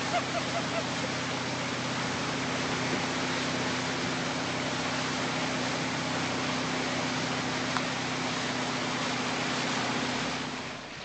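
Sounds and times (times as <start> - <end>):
churning wake water: 0.0 - 11.0
motorboat engine running: 0.0 - 11.0.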